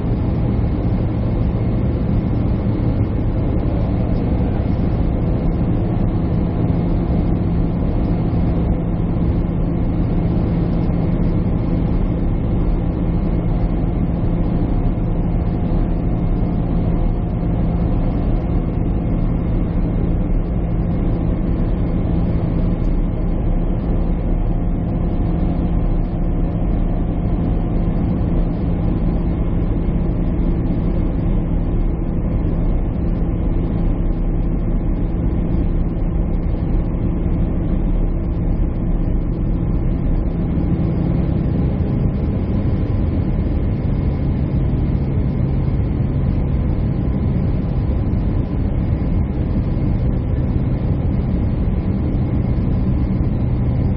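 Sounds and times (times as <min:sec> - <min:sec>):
jet airliner cabin drone: 0:00.0 - 0:53.9.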